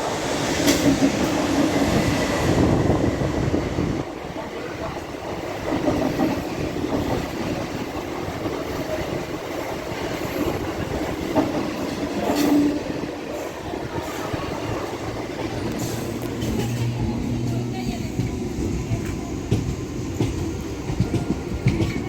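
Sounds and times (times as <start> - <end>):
train wheels clattering over rails: 0.0 - 22.0
train whine: 0.0 - 22.0.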